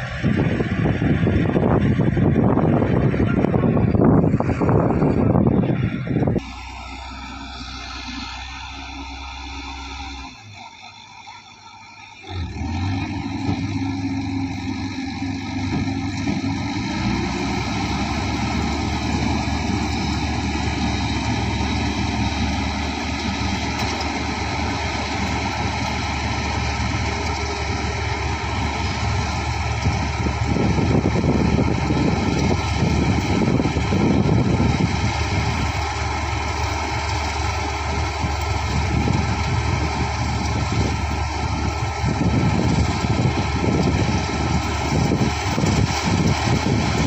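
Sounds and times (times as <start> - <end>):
combine harvester engine running: 0.0 - 47.0.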